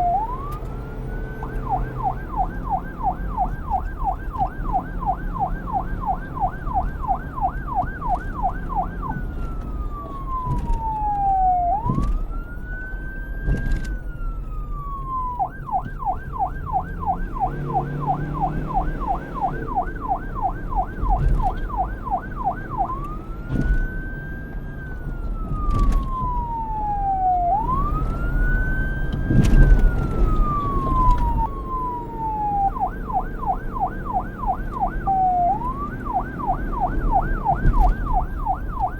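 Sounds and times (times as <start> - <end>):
police siren yelp and wail: 0.0 - 38.9.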